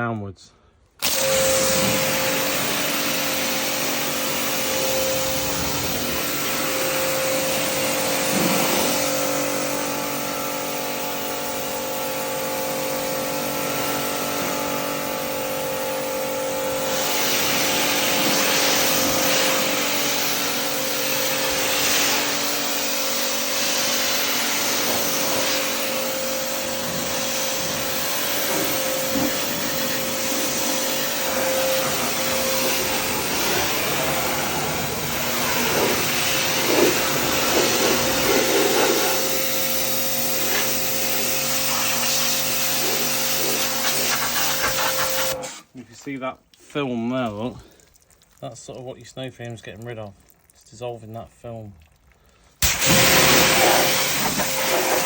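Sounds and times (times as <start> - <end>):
pressure washer motor whine: 1.0 - 45.7, 52.6 - 55.0
water jet hissing: 1.0 - 45.7, 52.6 - 55.0.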